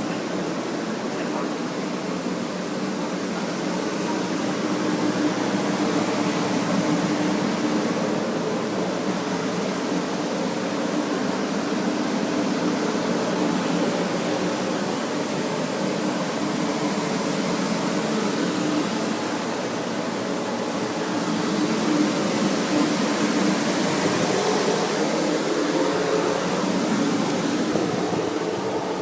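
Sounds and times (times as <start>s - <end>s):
electric fans running: 0.0s - 29.0s.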